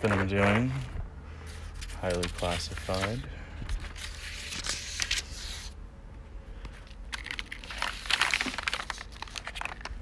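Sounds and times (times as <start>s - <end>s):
paper and plastic case rustling: 0.0s - 5.7s, 6.7s - 10.0s.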